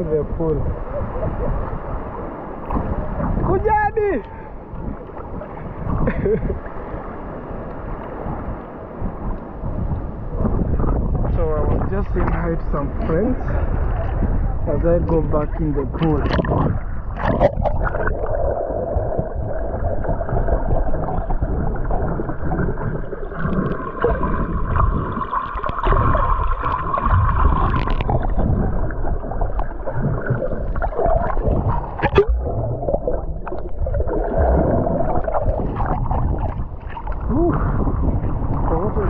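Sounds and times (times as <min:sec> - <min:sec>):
steady underwater hum: 0:00.0 - 0:39.0
water sloshing and gurgling: 0:00.0 - 0:39.0.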